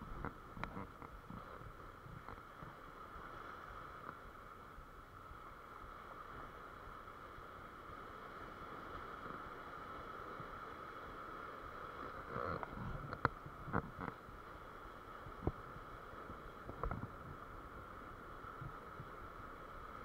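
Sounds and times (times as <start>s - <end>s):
surf washing over stony shore: 0.0s - 20.0s.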